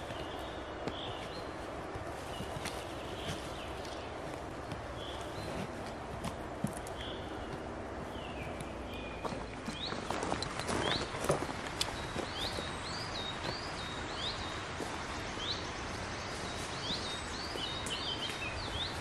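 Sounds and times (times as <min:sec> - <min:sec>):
footsteps on dry leaves: 0:00.0 - 0:19.0
steady outdoor hiss: 0:00.0 - 0:19.0.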